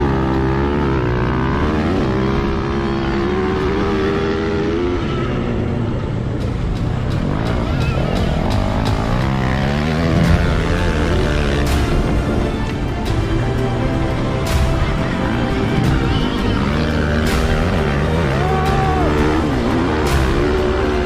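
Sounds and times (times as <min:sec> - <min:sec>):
dirt bike engines revving: 0:00.0 - 0:21.0
music: 0:00.0 - 0:21.0.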